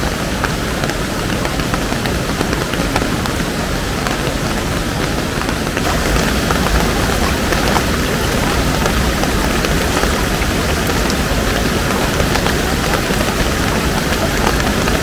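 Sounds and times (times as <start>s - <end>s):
falling rain ticks: 0.0s - 15.0s
river floodwater rushing: 0.0s - 15.0s.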